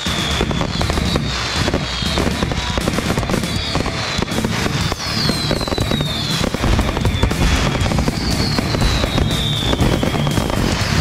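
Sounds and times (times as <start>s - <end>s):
falling firework whistles: 0.0s - 11.0s
fireworks crackling and bursting: 0.0s - 11.0s
background intro music: 0.3s - 11.0s.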